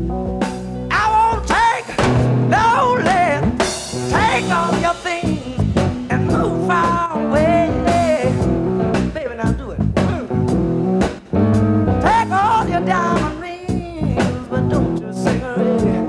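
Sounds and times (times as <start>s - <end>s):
blues-rock band playing: 0.0s - 16.0s
man singing: 0.9s - 10.4s, 12.0s - 16.0s.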